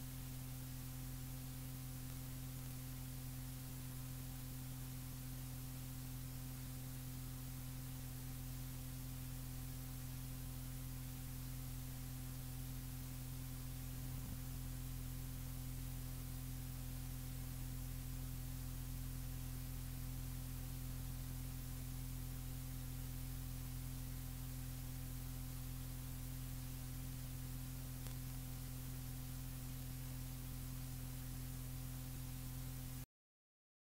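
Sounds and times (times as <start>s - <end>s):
tape hiss: 0.0s - 32.9s
electrical mains hum: 0.0s - 33.1s.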